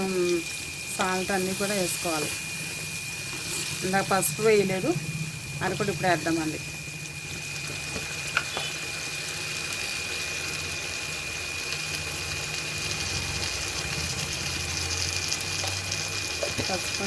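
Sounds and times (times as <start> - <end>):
curry sizzling in a pan: 0.0 - 17.0.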